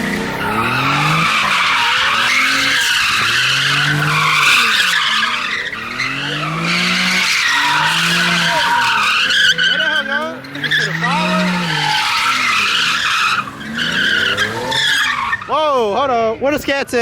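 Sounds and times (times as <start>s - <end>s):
car engine revving: 0.0s - 15.8s
tyres squealing: 0.0s - 16.0s.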